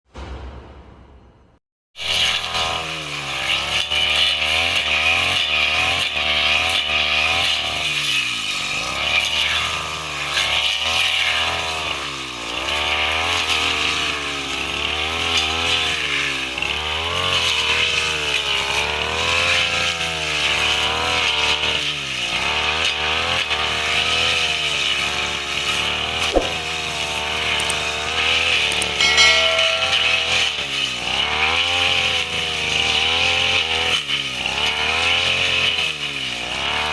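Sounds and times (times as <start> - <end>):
brush cutter engine running: 2.2 - 36.9.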